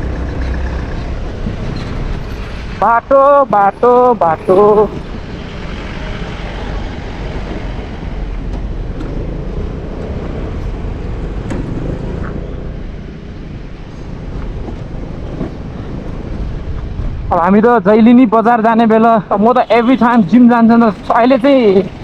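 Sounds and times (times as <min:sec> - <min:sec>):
scooter engine and road rumble: 0:00.0 - 0:22.0.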